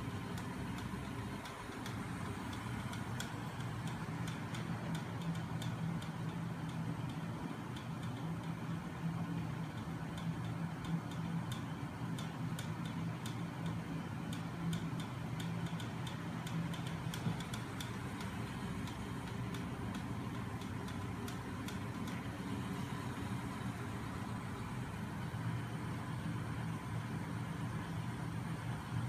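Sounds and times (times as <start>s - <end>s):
light clicking of spinning parts: 0.0s - 29.0s.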